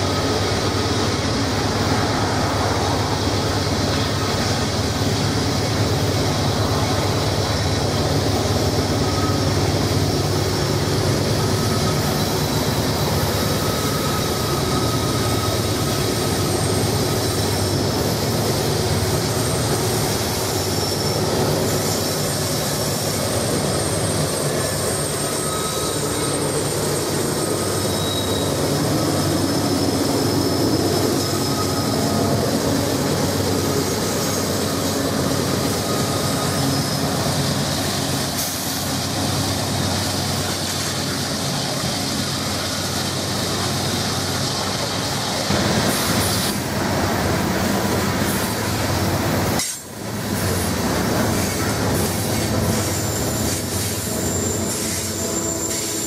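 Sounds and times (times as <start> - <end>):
locomotive engines: 0.0 - 56.0
train wheels rumbling on rails: 0.0 - 56.0.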